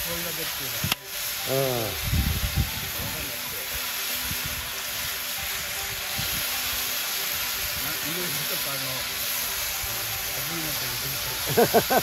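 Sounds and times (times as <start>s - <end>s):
beans sizzling in frying pan: 0.0s - 12.0s.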